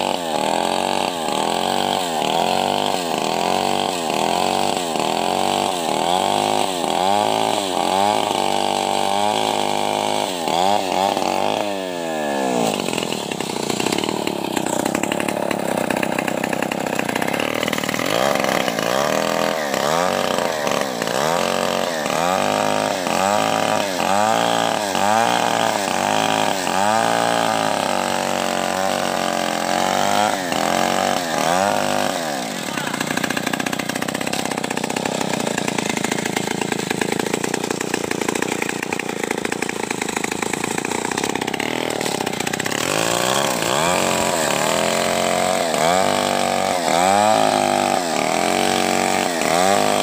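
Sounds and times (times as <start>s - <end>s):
chainsaw cutting through log: 0.0s - 50.0s.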